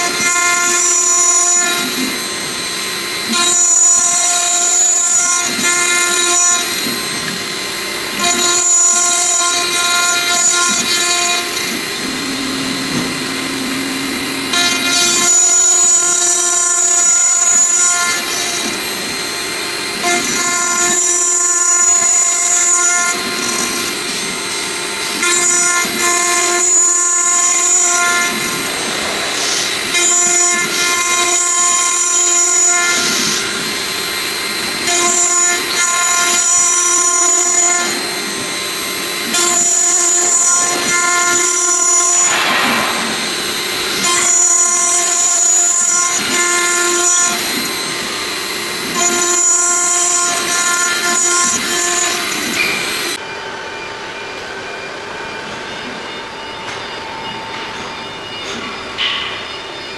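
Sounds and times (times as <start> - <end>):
high mechanical whine: 0.0 - 45.9, 51.5 - 59.9
machine noise: 0.0 - 59.9.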